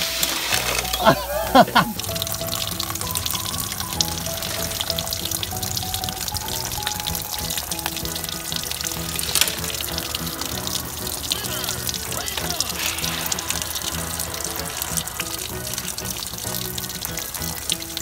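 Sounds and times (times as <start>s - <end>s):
light background music: 0.0s - 18.0s
water pouring onto plastic: 0.0s - 18.0s.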